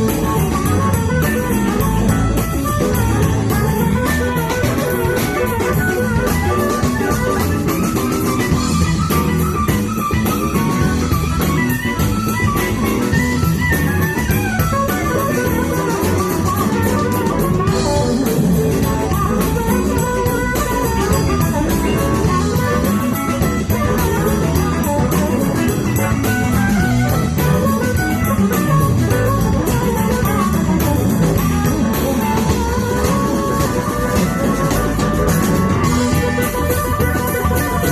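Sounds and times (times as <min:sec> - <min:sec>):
bass guitar: 0:00.0 - 0:37.9
drum kit: 0:00.0 - 0:37.9
guitars: 0:00.0 - 0:37.9
lead melody: 0:00.0 - 0:37.9.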